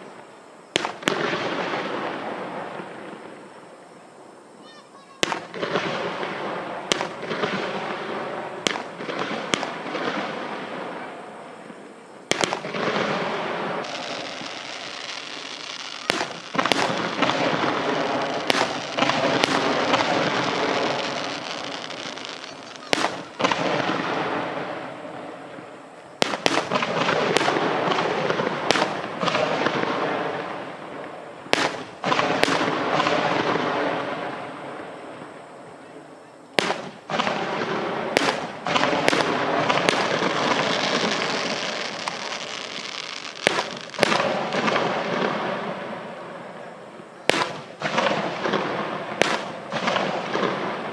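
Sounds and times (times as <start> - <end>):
firework bangs: 0.0 - 4.0, 4.6 - 50.9
firework crackling: 0.0 - 50.9.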